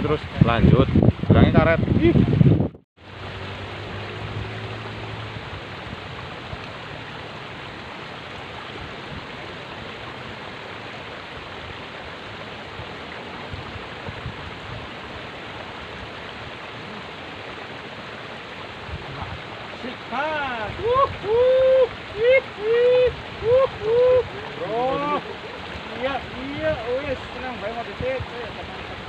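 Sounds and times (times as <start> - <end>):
water rushing in a ditch: 0.0 - 29.0.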